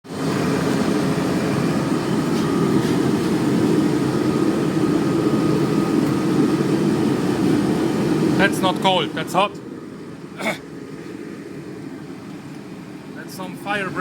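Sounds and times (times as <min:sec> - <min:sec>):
forge fire roaring: 0:00.0 - 0:14.0.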